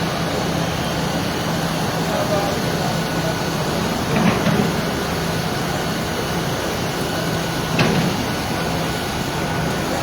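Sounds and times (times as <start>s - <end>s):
vehicle engines running: 0.0s - 10.0s.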